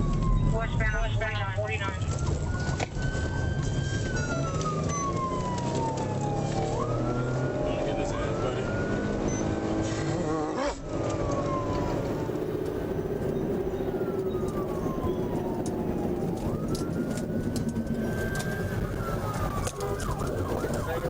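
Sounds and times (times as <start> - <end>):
police siren wailing: 0.0 - 10.1, 10.7 - 21.0
vehicle engine and road rumble: 0.0 - 21.0.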